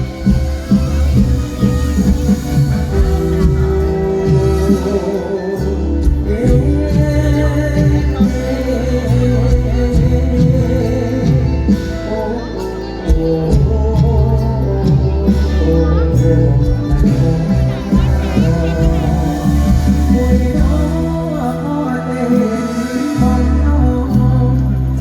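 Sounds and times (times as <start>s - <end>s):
steady bass beat: 0.0s - 12.0s, 13.1s - 21.6s
person singing: 0.0s - 25.0s.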